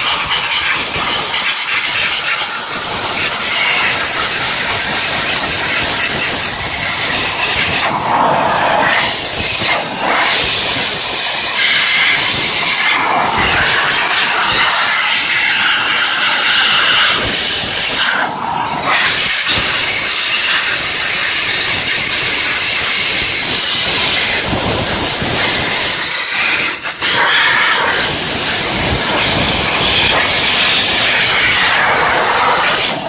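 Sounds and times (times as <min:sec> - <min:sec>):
steam cleaner hissing: 0:00.0 - 0:33.0.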